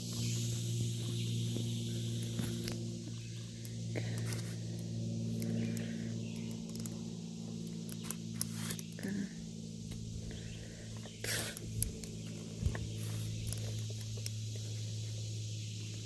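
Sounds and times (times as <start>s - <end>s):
footsteps on a trail: 0.0s - 9.2s, 9.8s - 16.0s
steady low hum: 0.0s - 16.0s.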